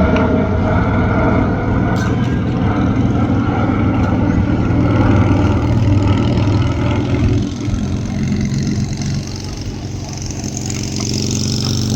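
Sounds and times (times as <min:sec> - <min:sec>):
loud engine drone: 0:00.0 - 0:11.9.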